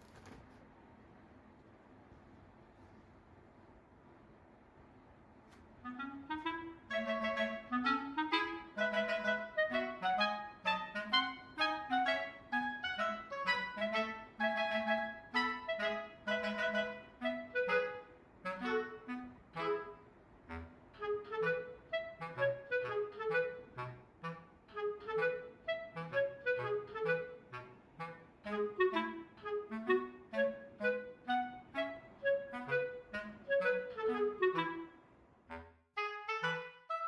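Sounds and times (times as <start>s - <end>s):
light instrumental music: 5.9s - 35.0s, 36.0s - 37.0s.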